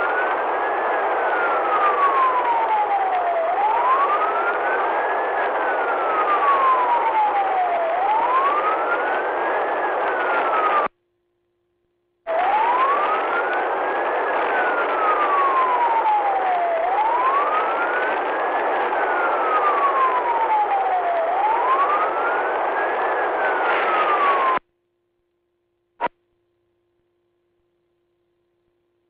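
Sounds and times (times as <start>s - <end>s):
police siren wailing: 0.0s - 10.9s, 12.3s - 24.6s.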